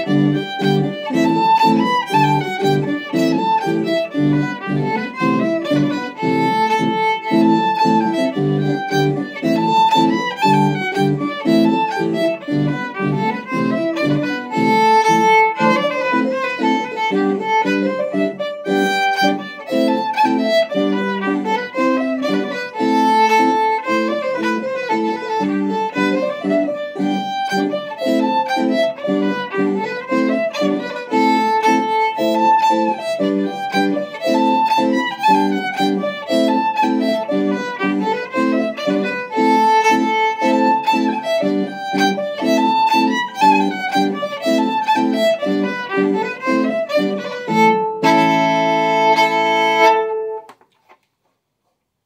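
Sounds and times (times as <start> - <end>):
solo fiddle dance tune: 0.0 - 50.6.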